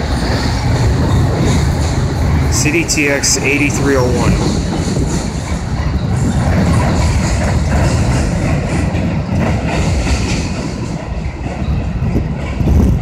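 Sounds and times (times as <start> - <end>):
passenger train rumbling past: 0.0 - 13.0.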